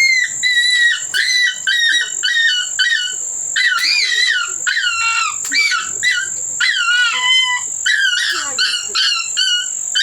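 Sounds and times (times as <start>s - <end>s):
dog whining and whimpering: 0.0s - 10.0s.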